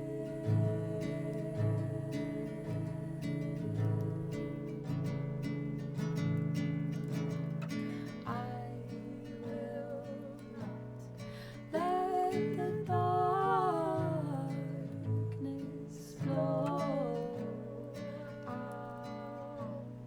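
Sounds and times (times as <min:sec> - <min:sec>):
wordless vocal: 0:00.0 - 0:04.7, 0:08.0 - 0:20.0
acoustic guitar strumming and plucking: 0:00.0 - 0:20.0.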